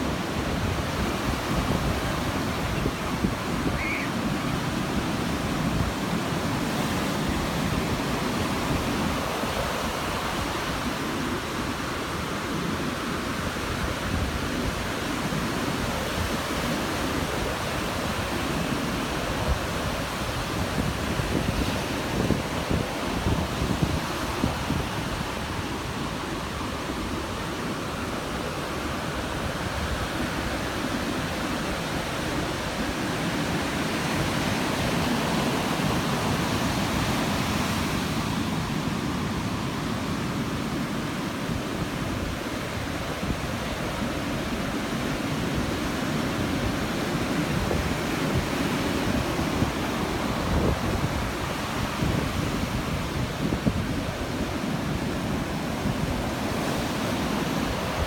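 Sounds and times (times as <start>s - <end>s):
ocean surf washing onto beach: 0.0s - 58.0s.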